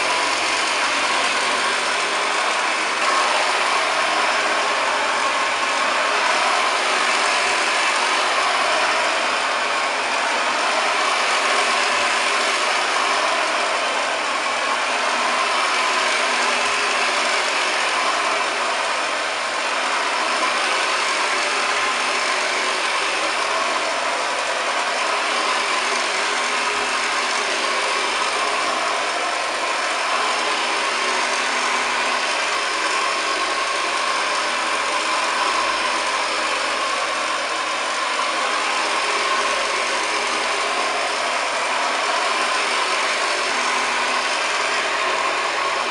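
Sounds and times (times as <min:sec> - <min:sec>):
upright vacuum cleaner running: 0:00.0 - 0:45.9.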